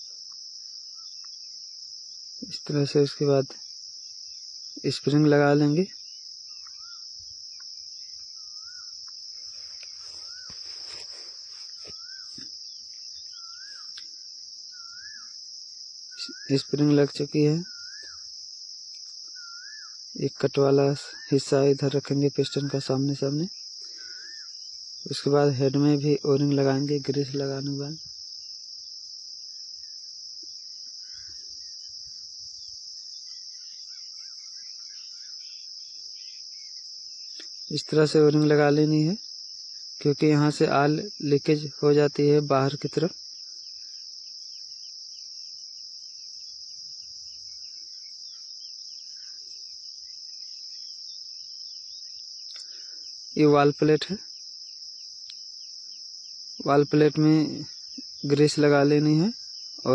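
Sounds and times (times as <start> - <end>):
crickets chirring: 0.0 - 59.9.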